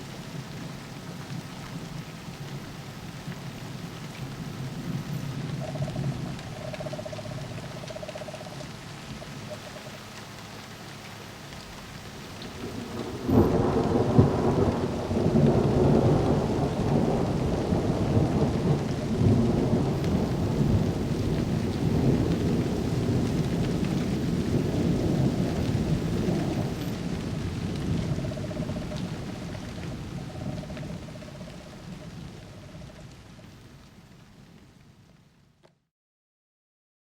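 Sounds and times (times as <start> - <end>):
thunder crack and rumble: 0.0 - 9.9, 11.0 - 33.7
rain falling: 0.0 - 35.6.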